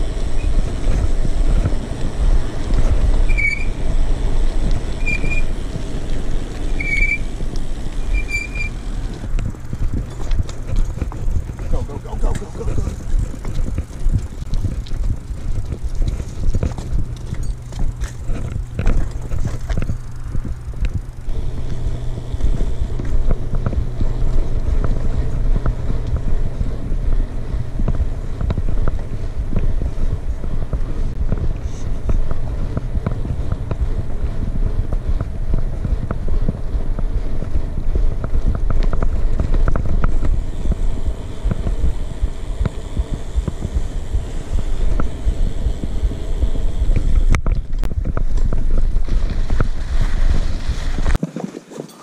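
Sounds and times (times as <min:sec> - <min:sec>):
bike rattling and clicking: 0:00.0 - 0:52.0
bike tyres rolling on asphalt: 0:00.0 - 0:52.0.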